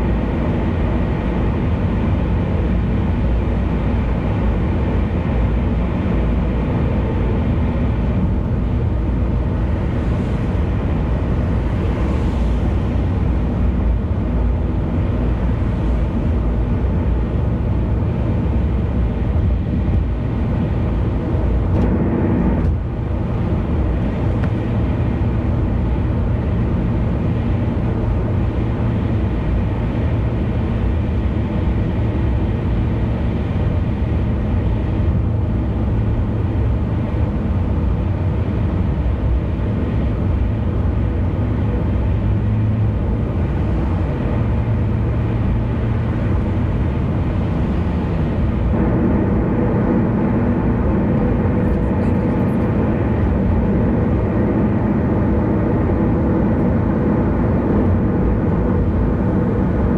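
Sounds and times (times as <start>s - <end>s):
car engine drone: 0.0s - 59.9s
tyre and road noise: 0.0s - 59.9s.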